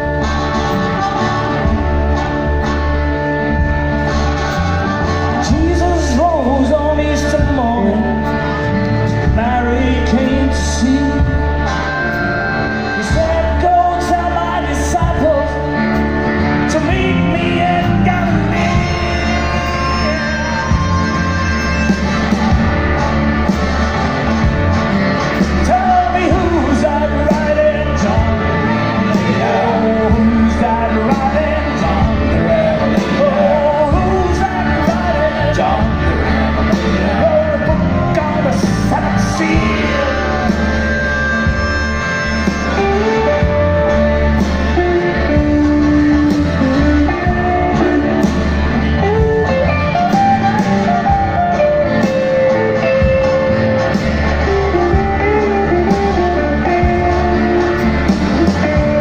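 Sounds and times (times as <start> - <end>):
acoustic guitar: 0.0 - 59.0
bass: 0.0 - 59.0
drums: 0.0 - 59.0
keyboard: 0.0 - 59.0.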